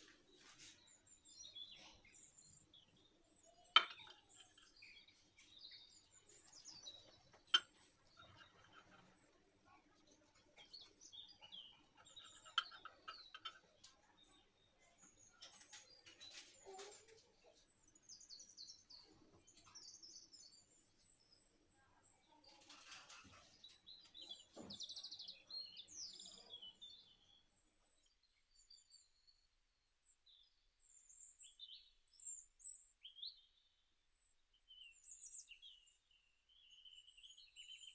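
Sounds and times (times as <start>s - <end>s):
faint birdsong: 0.0s - 37.9s.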